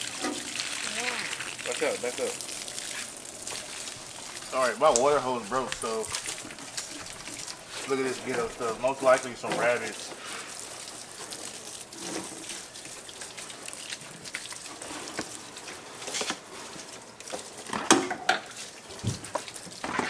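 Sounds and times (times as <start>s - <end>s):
water spraying from hose: 0.0s - 20.0s.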